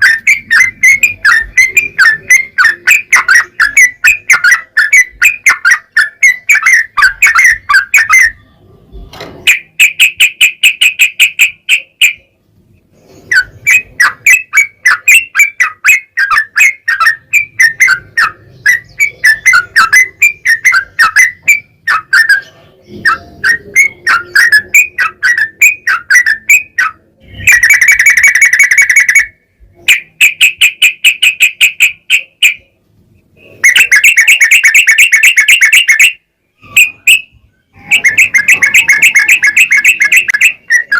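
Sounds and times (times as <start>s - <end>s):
bird chattering trills: 0.0s - 8.5s, 9.4s - 12.4s, 13.0s - 32.8s, 33.4s - 40.9s.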